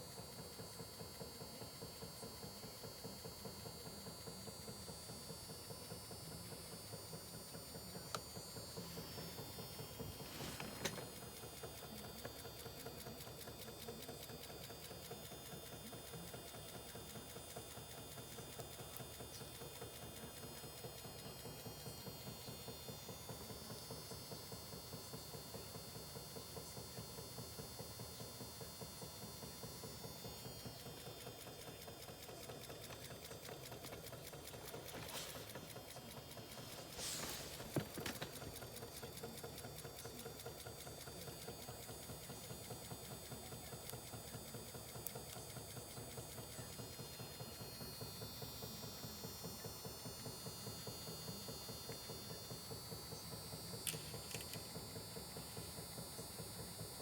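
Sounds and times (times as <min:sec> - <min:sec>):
small machine whirring rhythmically: 0:00.0 - 0:57.0.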